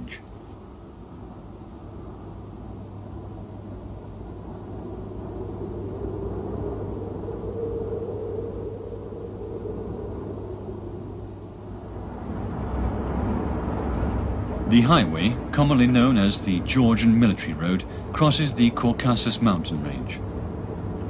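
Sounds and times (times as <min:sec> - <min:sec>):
aircraft engine hum: 0:00.0 - 0:21.0
rushing air noise: 0:00.0 - 0:21.0.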